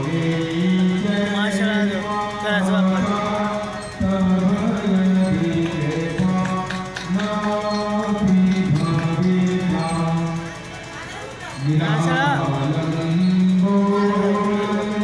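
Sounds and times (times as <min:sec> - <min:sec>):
harmonium playing melody: 0:00.0 - 0:15.0.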